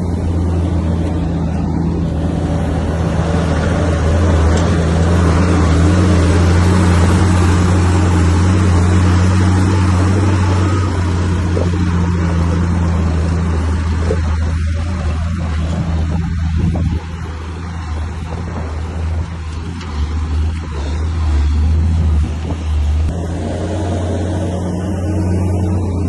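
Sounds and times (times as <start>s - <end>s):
heavy machine diesel engine running: 0.0s - 26.0s.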